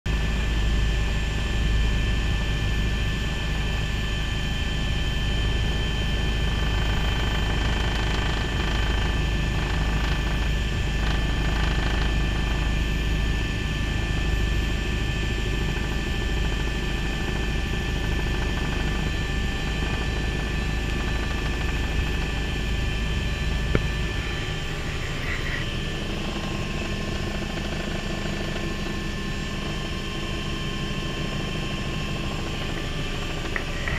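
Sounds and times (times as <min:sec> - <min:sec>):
helicopter rotor beat: 0:00.1 - 0:33.9
high turbine whine: 0:00.1 - 0:33.9.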